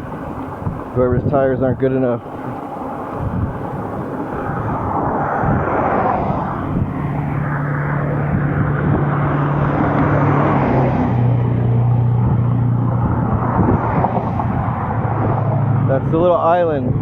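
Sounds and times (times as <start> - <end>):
highway traffic: 0.0 - 17.0
low hum of passing vehicle: 0.0 - 17.0
wind rushing: 0.0 - 17.0.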